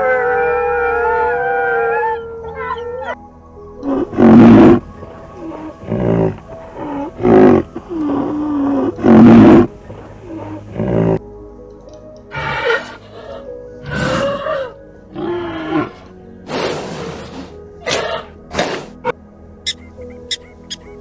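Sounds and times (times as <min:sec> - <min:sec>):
animal calling loudly: 0:00.0 - 0:03.2, 0:03.8 - 0:11.2, 0:12.3 - 0:21.0.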